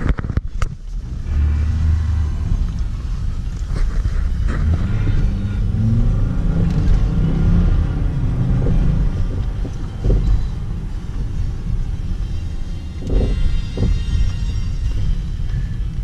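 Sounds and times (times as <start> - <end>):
low road rumble: 0.0 - 16.0
car engine accelerating: 0.3 - 16.0.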